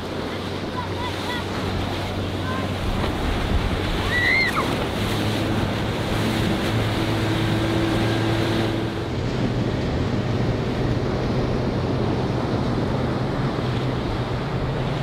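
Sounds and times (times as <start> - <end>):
breaking surf: 0.0 - 15.0
outboard motor humming: 0.0 - 15.0
wind on microphone: 0.0 - 15.0.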